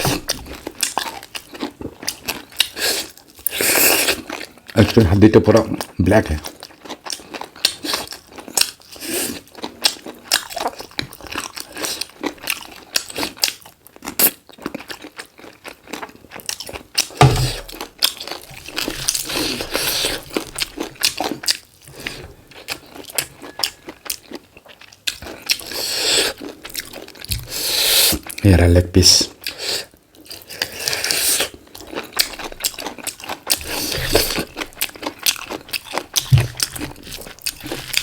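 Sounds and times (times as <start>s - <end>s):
chewing and crunching bone: 0.0s - 28.5s, 29.2s - 38.0s.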